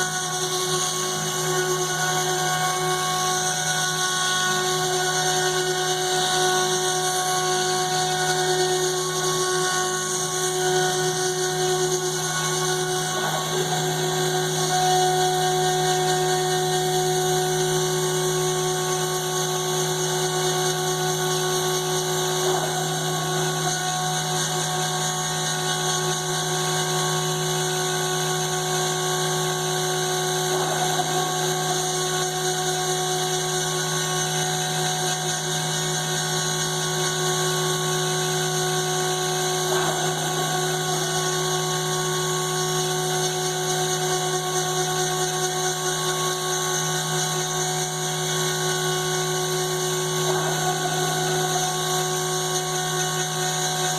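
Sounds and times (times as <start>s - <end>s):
router spindle whining: 0.0s - 53.9s.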